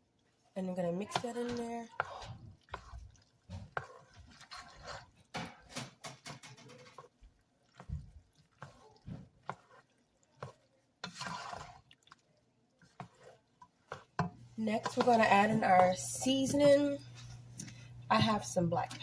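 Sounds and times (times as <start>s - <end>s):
wet squelching stir: 0.0s - 19.0s.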